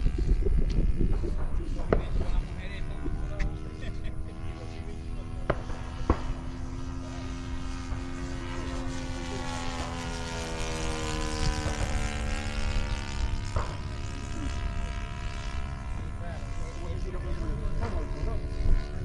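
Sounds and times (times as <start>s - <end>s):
model airplane motor droning: 0.0s - 19.0s.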